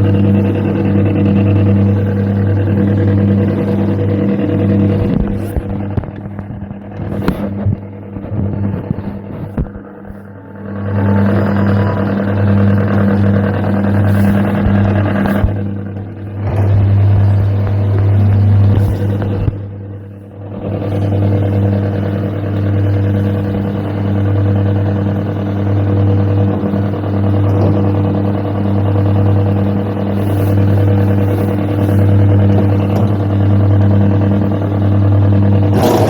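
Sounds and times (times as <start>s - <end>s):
kiddie ride motor humming: 0.0s - 36.0s.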